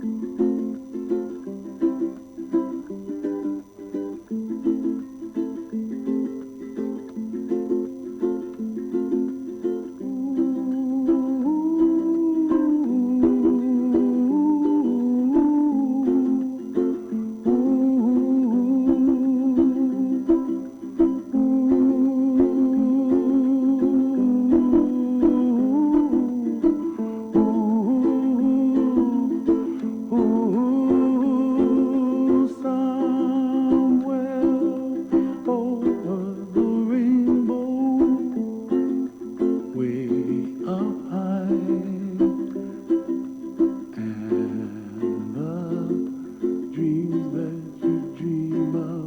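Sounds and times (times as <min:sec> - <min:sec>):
person singing: 0:00.0 - 0:49.0
ukulele playing: 0:00.0 - 0:49.0.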